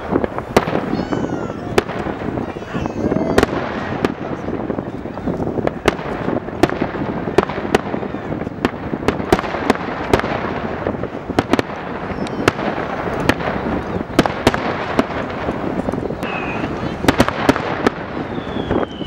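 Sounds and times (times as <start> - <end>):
dense steady noise: 0.0 - 19.0
firework shells bursting: 0.0 - 19.0.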